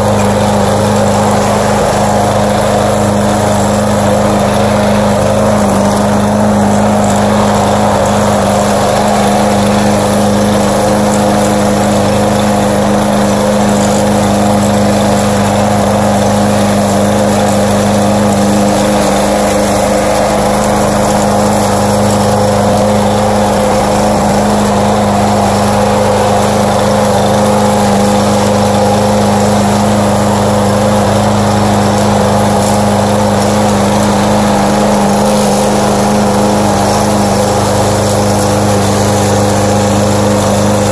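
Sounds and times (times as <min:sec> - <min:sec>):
lawn mower engine running: 0:00.0 - 0:40.9.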